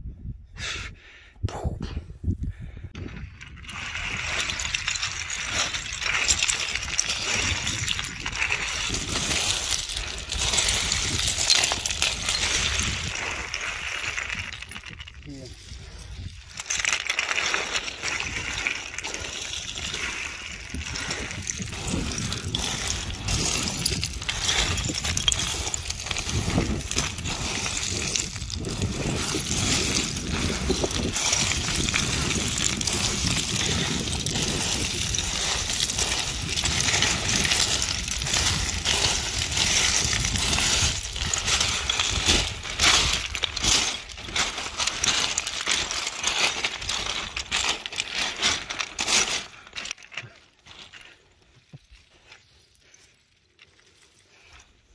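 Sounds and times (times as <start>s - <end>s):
small stones sliding and chinking: 2.8s - 54.9s
boots crunching on scree: 3.0s - 54.9s.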